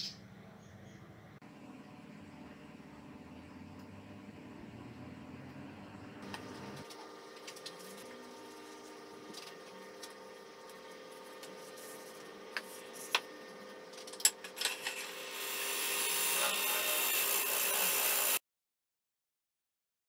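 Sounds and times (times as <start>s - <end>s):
wood lathe motor hum: 2.2s - 18.4s.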